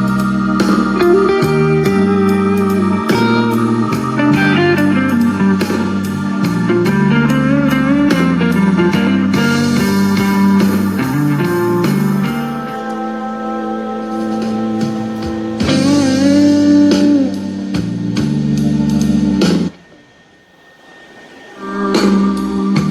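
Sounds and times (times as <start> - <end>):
blues music with slide guitar: 0.0 - 19.8
low bass line: 0.0 - 19.8.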